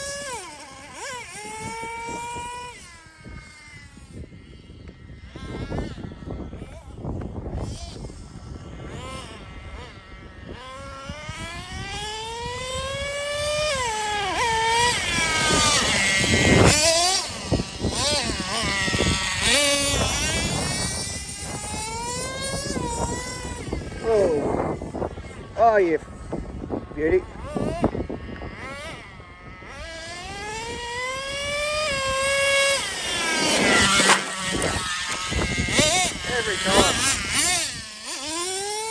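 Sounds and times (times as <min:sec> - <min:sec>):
small nitro engine whining: 0:00.0 - 0:38.9
wind buffeting microphone: 0:00.0 - 0:38.9.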